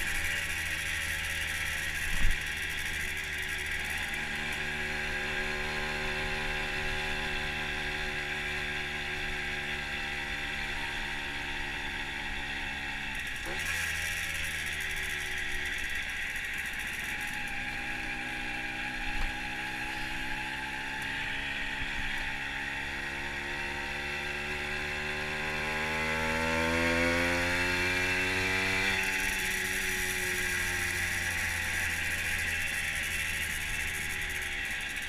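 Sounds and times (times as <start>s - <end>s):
moped engine running: 0.0s - 35.0s.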